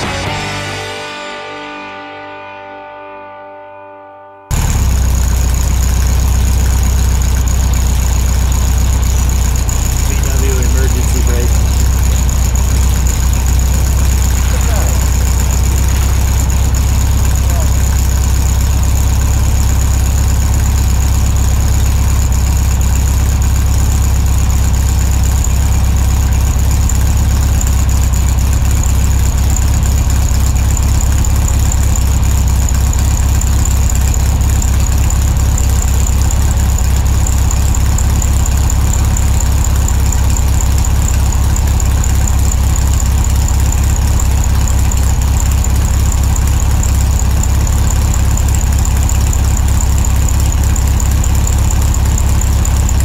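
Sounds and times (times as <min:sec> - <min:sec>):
car engine idling: 0:04.5 - 0:53.0.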